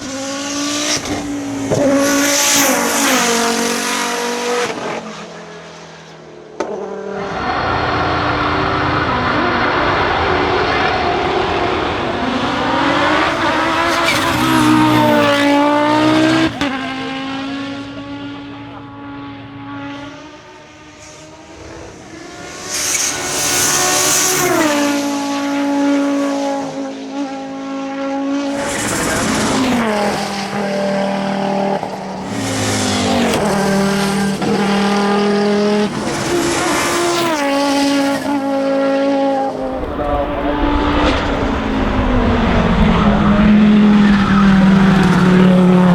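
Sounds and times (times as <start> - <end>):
turbocharged engine accelerating: 6.6 - 45.9.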